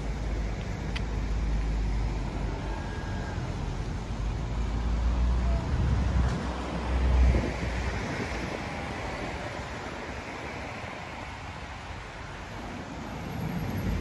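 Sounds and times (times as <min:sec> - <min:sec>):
cars running along road: 0:00.0 - 0:14.0.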